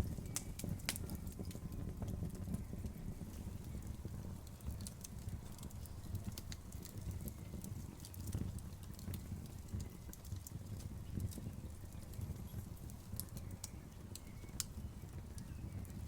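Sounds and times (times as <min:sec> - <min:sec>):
burning wood snapping and crackling: 0:00.0 - 0:16.0
low rumble of flames: 0:00.0 - 0:16.0.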